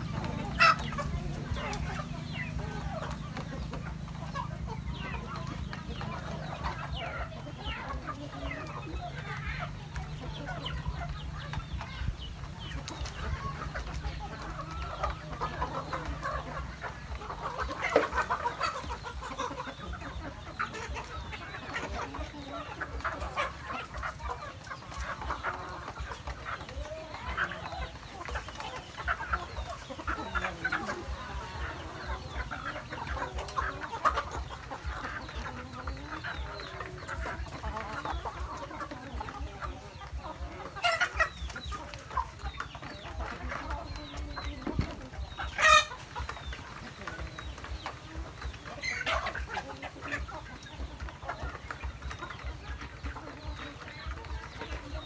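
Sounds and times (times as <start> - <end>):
chickens clucking: 0.0 - 55.0
loud chicken calls: 0.0 - 55.0.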